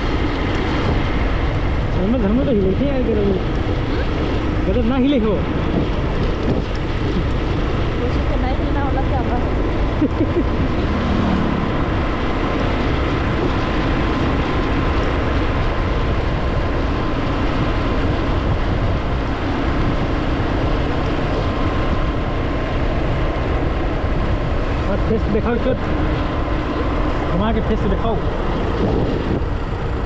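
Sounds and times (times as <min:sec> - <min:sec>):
vehicle rumble: 0:00.0 - 0:30.0
wind on microphone: 0:00.0 - 0:30.0.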